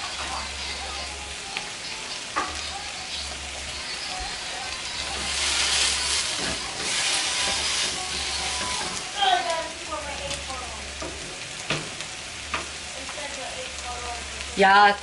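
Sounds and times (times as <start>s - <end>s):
food sizzling in frying pans: 0.0s - 15.0s.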